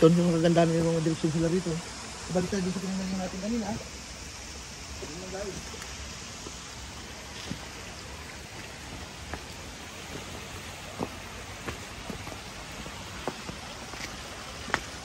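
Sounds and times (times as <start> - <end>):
light drizzle hissing: 0.0 - 15.0.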